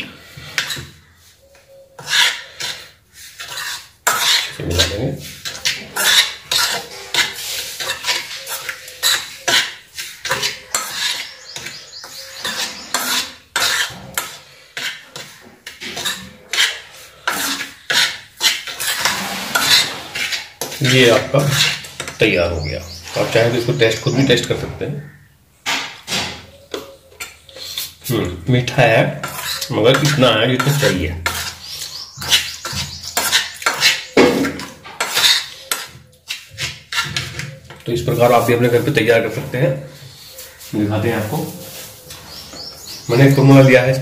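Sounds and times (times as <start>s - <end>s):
spoon scraping steel pan: 0.0s - 24.6s, 25.9s - 44.0s.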